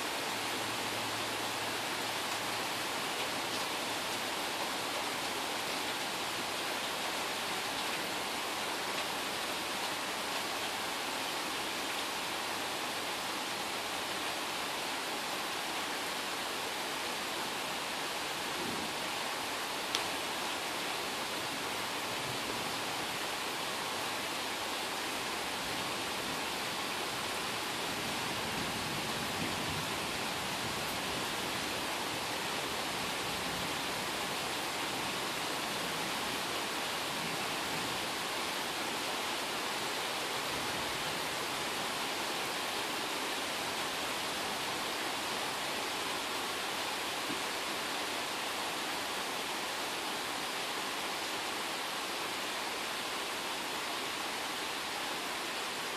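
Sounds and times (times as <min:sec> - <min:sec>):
rain falling steadily: 0:00.0 - 0:55.9.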